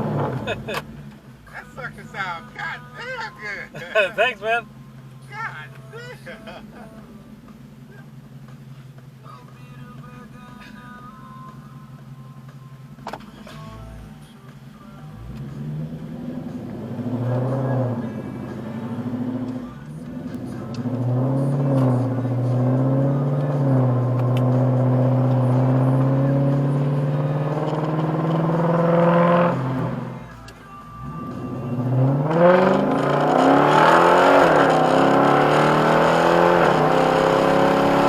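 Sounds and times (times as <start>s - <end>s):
car engine accelerating: 0.0s - 10.4s, 11.2s - 38.0s.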